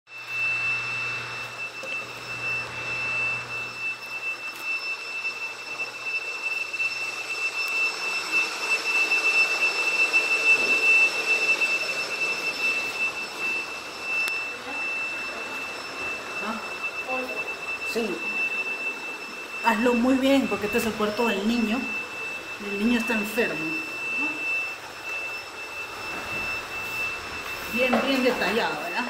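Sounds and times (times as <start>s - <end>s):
vacuum cleaner motor running: 0.1s - 29.0s.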